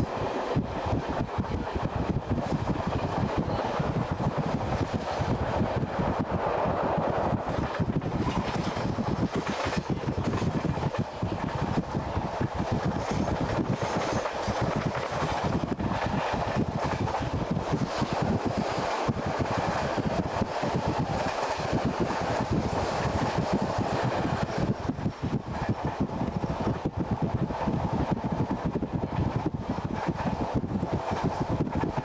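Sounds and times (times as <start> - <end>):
train rumble and rush: 0.0 - 32.0.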